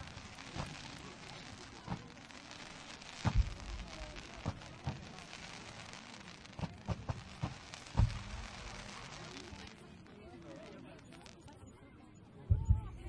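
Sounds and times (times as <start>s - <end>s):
loud fireworks booms: 0.0s - 11.5s
fireworks bangs: 0.0s - 11.6s
fireworks crackle: 0.0s - 11.7s.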